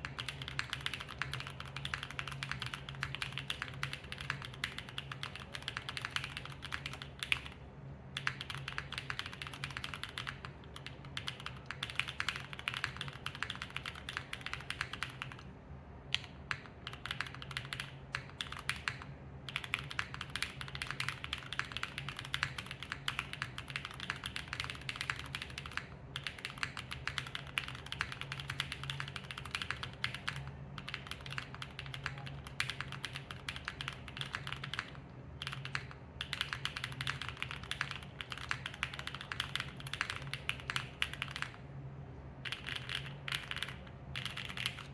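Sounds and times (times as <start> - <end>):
fast mechanical keyboard typing: 0.0 - 15.5, 16.1 - 41.6, 42.4 - 44.9.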